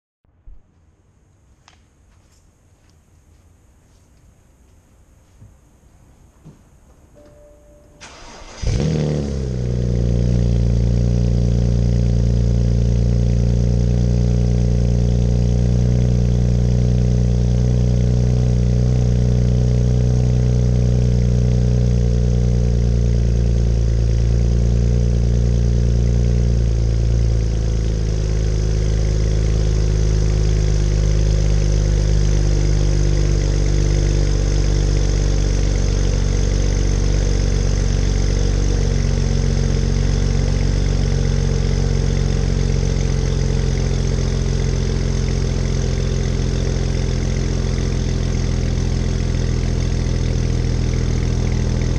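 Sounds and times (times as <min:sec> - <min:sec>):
car engine starting and idling: 0:07.1 - 0:51.9.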